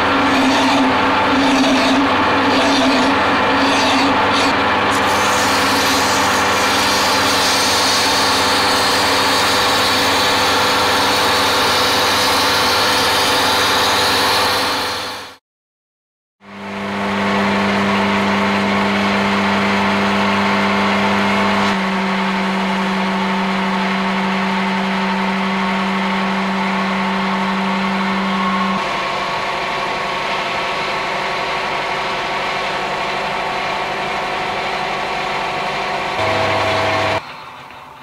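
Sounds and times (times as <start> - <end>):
metal lathe motor hum: 0.0 - 15.4, 16.5 - 37.4.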